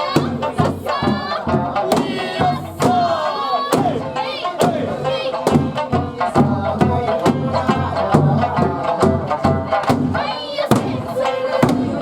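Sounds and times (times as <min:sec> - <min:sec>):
drum beat: 0:00.0 - 0:12.0
folk song with pitched melody: 0:00.0 - 0:12.0.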